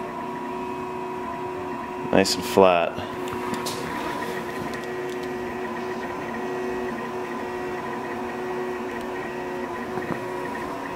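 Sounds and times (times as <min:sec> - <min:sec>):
cooling fans whining: 0:00.0 - 0:10.9
printer mechanical whir: 0:00.0 - 0:10.9.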